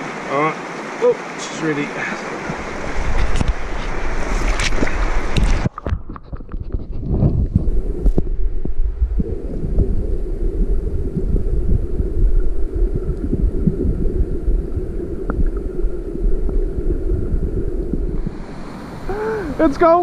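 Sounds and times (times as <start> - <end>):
muffled underwater river rushing: 0.0 - 20.0.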